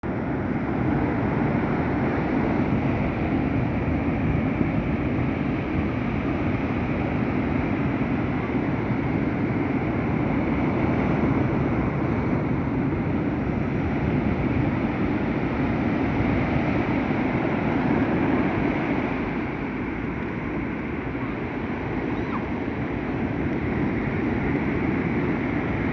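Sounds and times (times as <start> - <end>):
sea waves rushing: 0.0 - 25.9.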